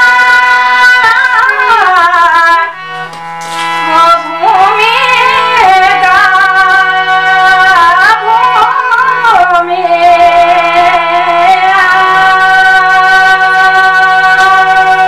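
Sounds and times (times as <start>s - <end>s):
woman singing folk melody: 0.0s - 2.8s, 3.8s - 15.0s
instrumental accompaniment: 0.0s - 15.0s.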